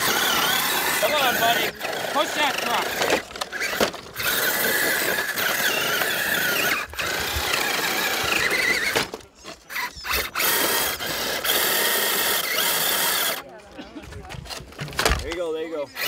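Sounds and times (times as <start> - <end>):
toy truck electric motor whining: 0.0 - 13.4, 14.5 - 16.0.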